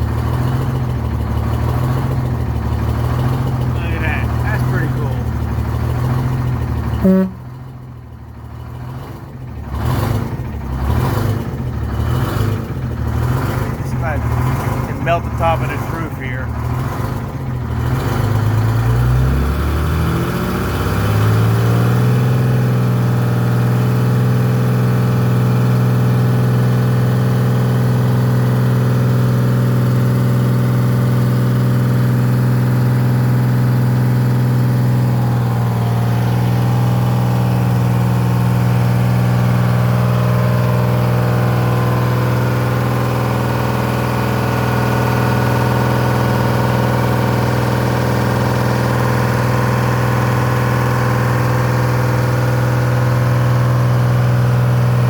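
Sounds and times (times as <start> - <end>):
two-stroke diesel engine running: 0.0 - 55.0.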